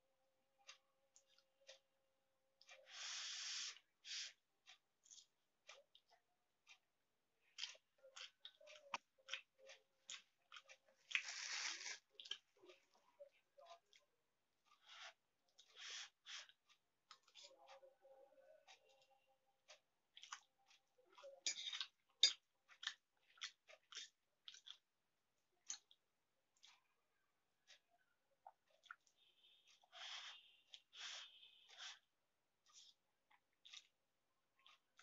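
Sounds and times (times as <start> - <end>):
chewing: 0.6 - 1.8, 2.6 - 17.9, 18.6 - 35.0.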